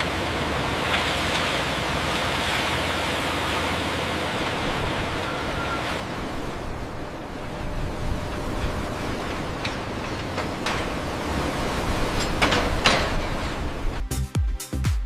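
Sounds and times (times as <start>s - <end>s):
surf rushing on a beach: 0.0s - 14.0s.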